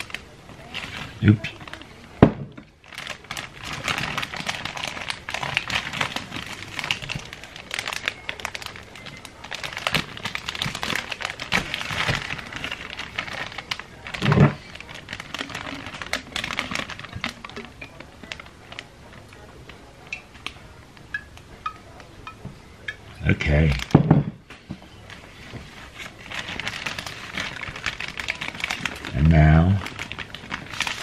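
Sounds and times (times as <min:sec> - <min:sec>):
plastic bag crinkling and rustling: 0:00.0 - 0:20.0, 0:23.6 - 0:31.0.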